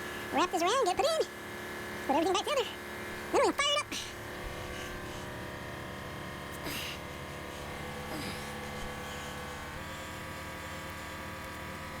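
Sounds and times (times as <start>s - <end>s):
electric hum: 0.0s - 12.0s.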